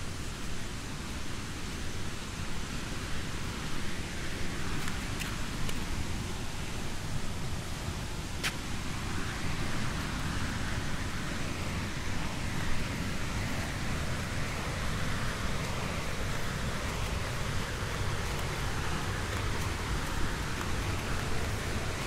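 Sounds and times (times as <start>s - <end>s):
wind buffeting microphone: 4.0s - 22.0s.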